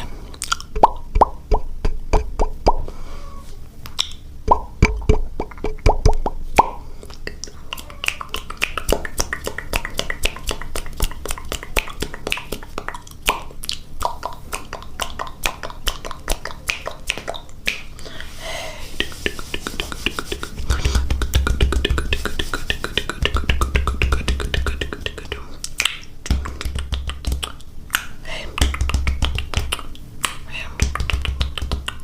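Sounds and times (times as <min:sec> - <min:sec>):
wet mouth clicks and pops: 0:00.4 - 0:02.8, 0:03.9 - 0:17.8, 0:20.9 - 0:32.0.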